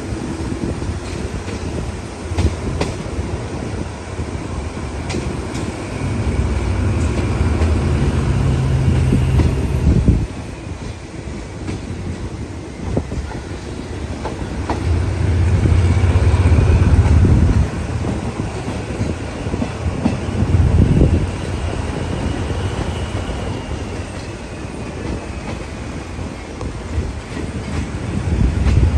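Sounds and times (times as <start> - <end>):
train rumbling on track: 0.0 - 28.9
wheels clicking over rail joints: 0.2 - 28.9.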